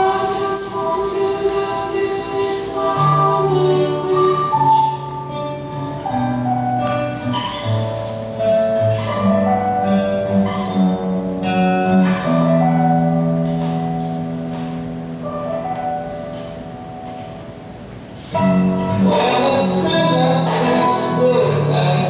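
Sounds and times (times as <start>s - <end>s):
plucked string notes: 2.4s - 22.0s.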